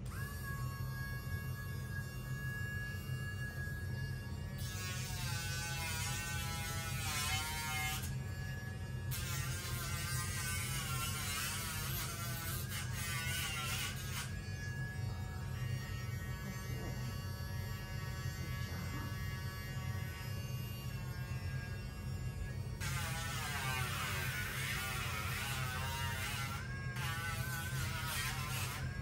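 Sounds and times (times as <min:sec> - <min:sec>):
rotary tool buzzing: 0:00.0 - 0:29.0.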